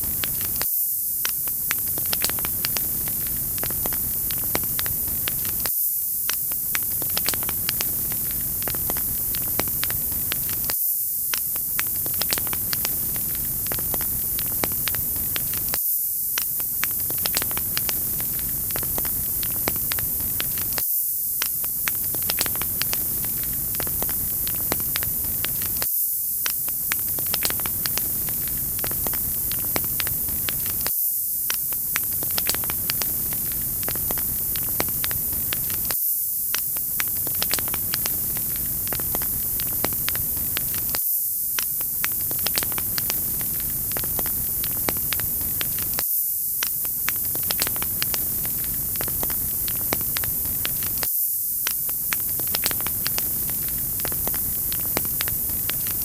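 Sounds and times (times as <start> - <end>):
wood fire crackling and popping: 0.0 - 20.8, 21.4 - 56.0.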